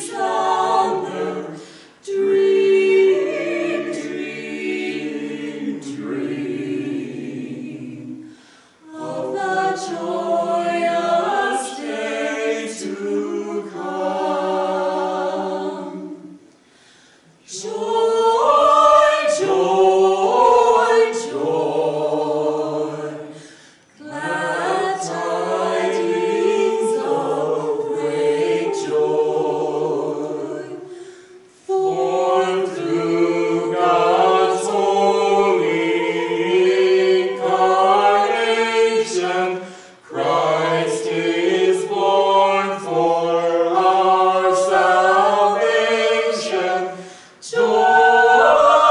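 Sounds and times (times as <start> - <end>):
mixed vocal quartet singing: 0.0 - 48.9.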